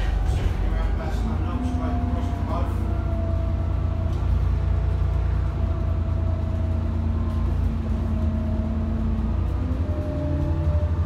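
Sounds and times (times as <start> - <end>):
diesel bus engine drone: 0.0 - 11.0.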